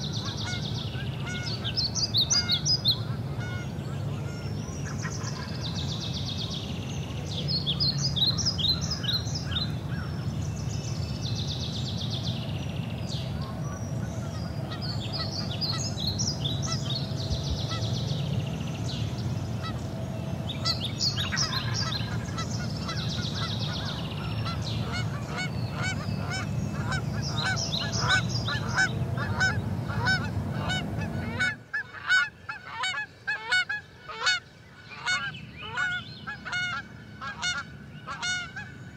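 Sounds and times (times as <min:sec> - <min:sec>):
small birds chirping: 0:00.0 - 0:31.5
low steady rumble: 0:00.0 - 0:38.9.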